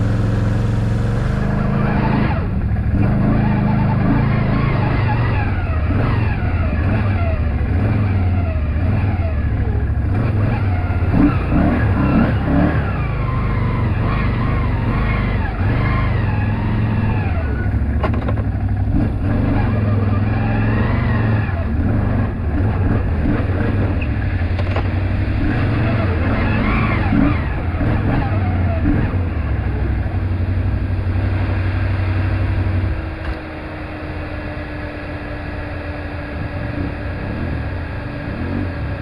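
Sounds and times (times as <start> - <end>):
atv engines revving: 0.0 - 39.0.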